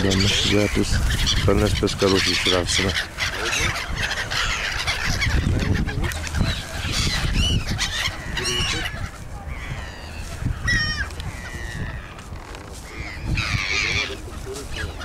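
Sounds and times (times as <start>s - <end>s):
gulls and ducks calling: 0.0s - 15.0s.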